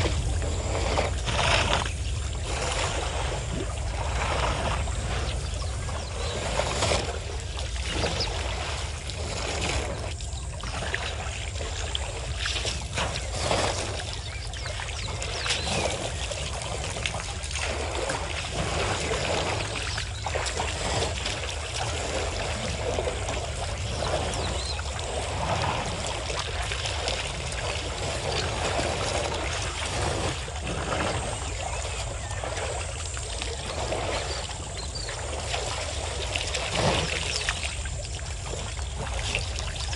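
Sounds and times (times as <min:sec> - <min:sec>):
steady low rumble: 0:00.0 - 0:39.9
water splashing and trickling: 0:00.0 - 0:39.9.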